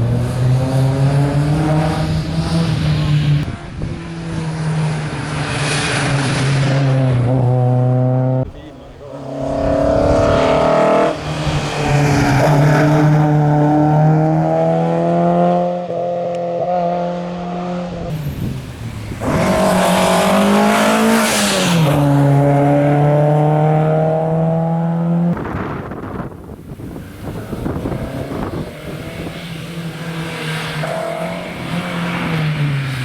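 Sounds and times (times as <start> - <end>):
car passing by rush: 0.0 - 33.0
rally car engine at full throttle: 0.0 - 33.0.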